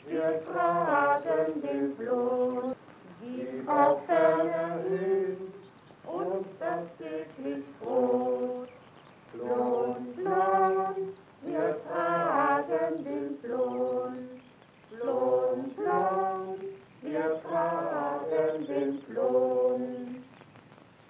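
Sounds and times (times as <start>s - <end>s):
person singing unaccompanied: 0.0s - 20.5s.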